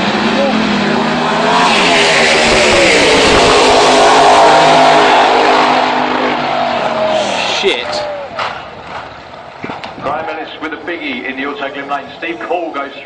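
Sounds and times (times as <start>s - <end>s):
drag racing cars accelerating: 0.0s - 13.0s.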